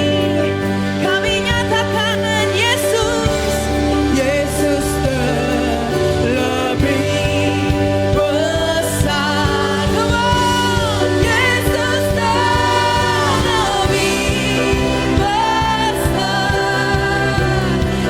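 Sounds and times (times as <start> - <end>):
bass: 0.0 - 18.0
drum beats: 0.0 - 18.0
person singing: 0.0 - 18.0.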